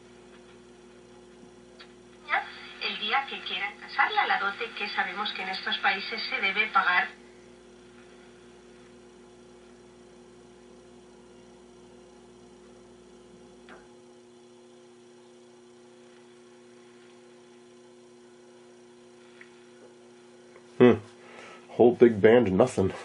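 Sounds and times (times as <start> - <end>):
radio hum with hiss: 0.0 - 23.0.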